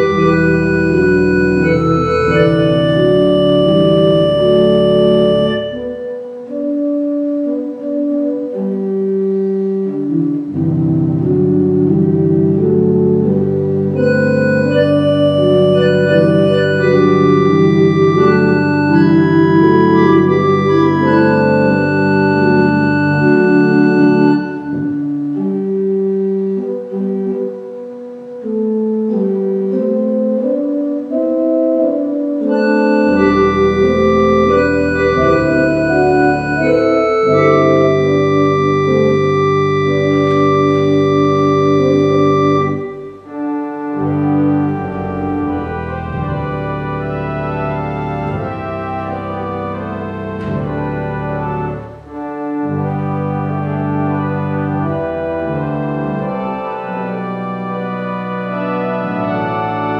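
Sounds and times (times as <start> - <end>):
deep organ pedal bass: 0.0 - 59.9
organ chords: 0.0 - 59.9.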